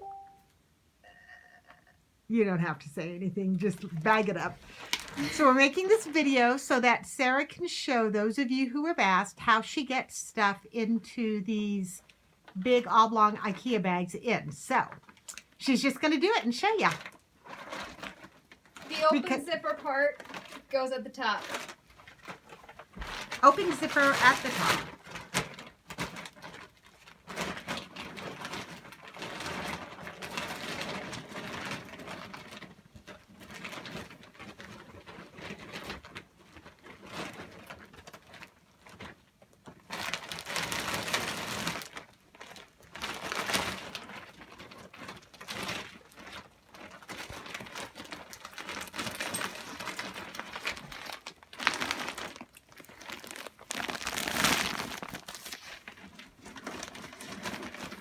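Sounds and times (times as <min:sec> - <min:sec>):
plastic bag crinkling: 0:00.0 - 0:00.4, 0:02.7 - 0:07.5, 0:11.8 - 0:58.0.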